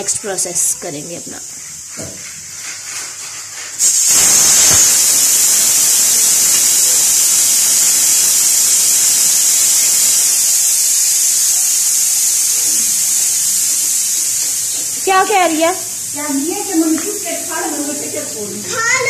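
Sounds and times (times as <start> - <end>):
pressure cooker steam hissing: 0.0 - 2.3, 3.5 - 19.0.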